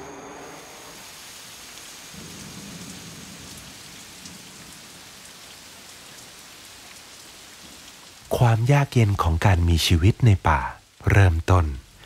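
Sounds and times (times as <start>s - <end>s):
heavy rain on leaves: 0.0s - 12.0s.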